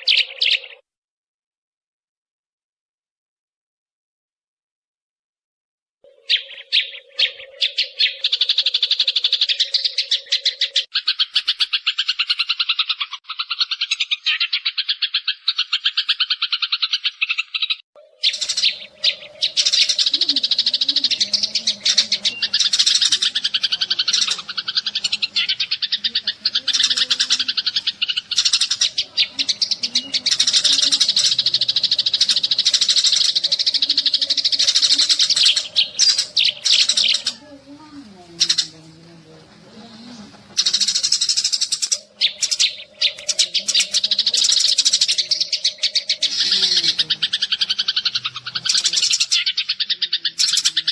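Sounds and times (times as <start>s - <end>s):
sparrows chirping: 0.0s - 0.8s, 6.0s - 50.9s.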